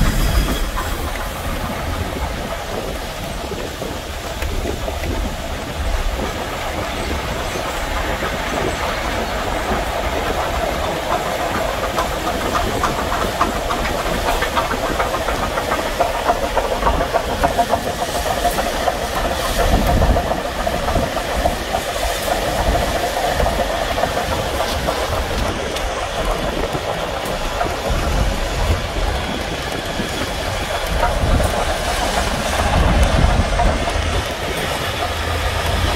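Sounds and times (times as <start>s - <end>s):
steam locomotive running: 0.0s - 35.9s.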